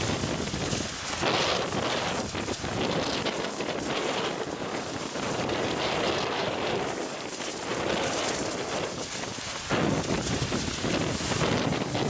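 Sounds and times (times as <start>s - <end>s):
waves breaking: 0.0s - 12.0s
wind buffeting microphone: 0.0s - 12.0s.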